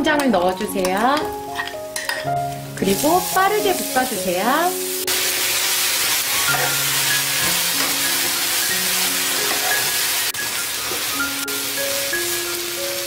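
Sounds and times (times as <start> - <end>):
food sizzling in oil: 0.6 - 13.0.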